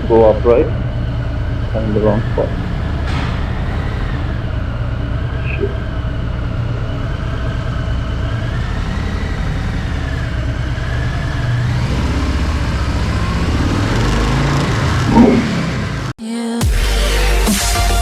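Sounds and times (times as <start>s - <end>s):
motorcycle engine running: 0.0s - 16.1s.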